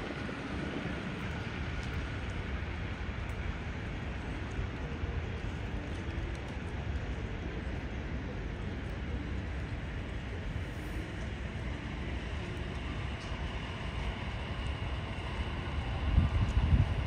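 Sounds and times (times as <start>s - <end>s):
traffic rumble: 0.0s - 17.0s
wind buffeting microphone: 0.0s - 17.0s.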